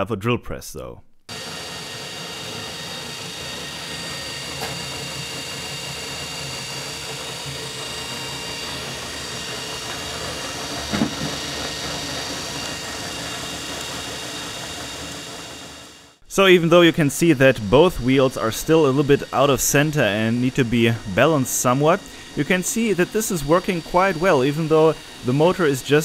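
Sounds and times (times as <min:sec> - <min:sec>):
washing machine motor whirring: 0:01.3 - 0:26.0.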